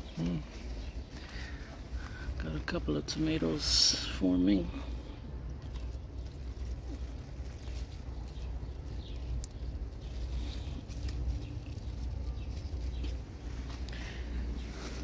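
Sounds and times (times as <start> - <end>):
low steady rumble: 0.0 - 15.0
plant leaves rustling: 0.0 - 15.0.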